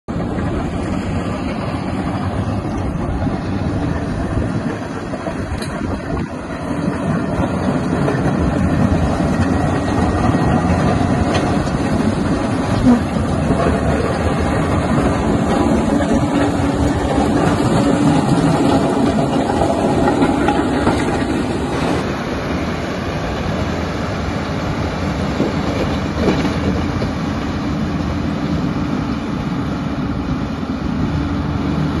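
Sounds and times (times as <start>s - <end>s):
diesel engine running under load: 0.1s - 32.0s.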